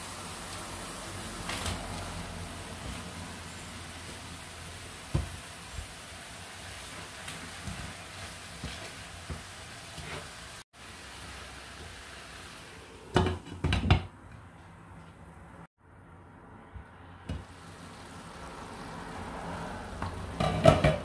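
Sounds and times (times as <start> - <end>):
vegetables sizzling in oil: 0.0 - 13.5, 17.4 - 21.0.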